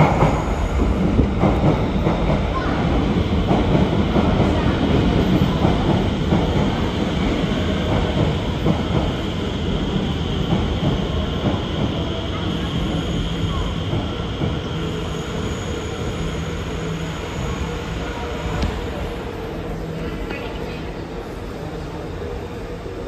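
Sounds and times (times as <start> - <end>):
metro train wheels rumbling: 0.0 - 23.0.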